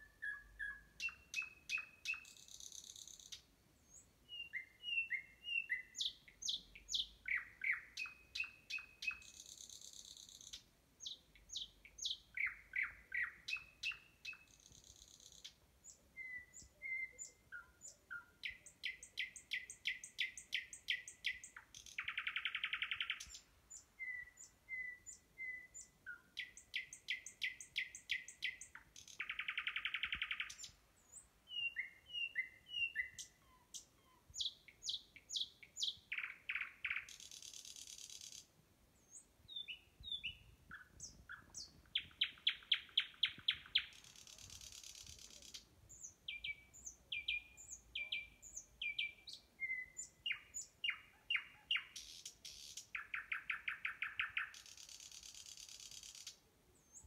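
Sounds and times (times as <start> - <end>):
nightingale singing: 0.0 - 57.0.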